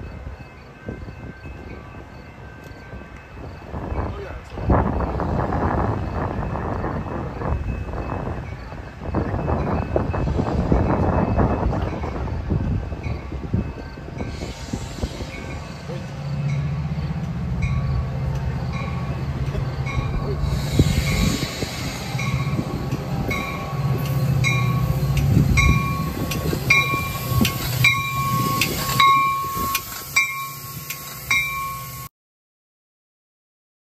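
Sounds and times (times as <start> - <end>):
low rumble of train: 0.0 - 32.1
train warning bell ringing: 0.0 - 32.1.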